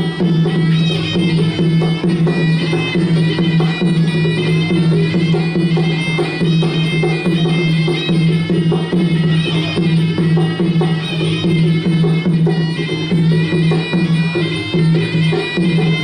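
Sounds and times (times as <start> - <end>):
drums beating: 0.0 - 16.0
reedy wind instrument melody: 0.0 - 16.0.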